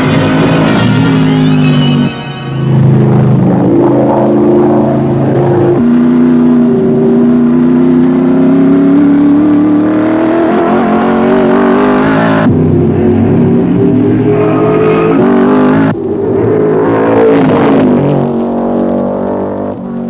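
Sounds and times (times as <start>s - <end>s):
racing car engine accelerating: 0.0s - 20.0s.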